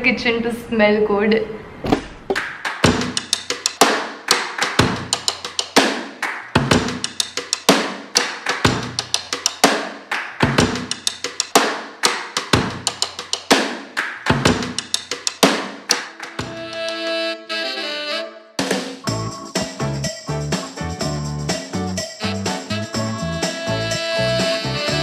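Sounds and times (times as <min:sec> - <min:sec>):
drum kit beat: 0:02.3 - 0:17.2, 0:18.6 - 0:25.0.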